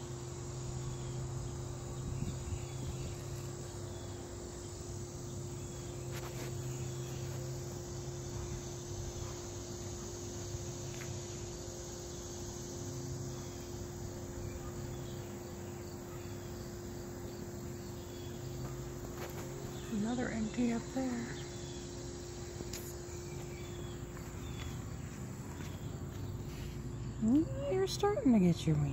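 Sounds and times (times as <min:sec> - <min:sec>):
insects chorus: 0:00.0 - 0:28.9.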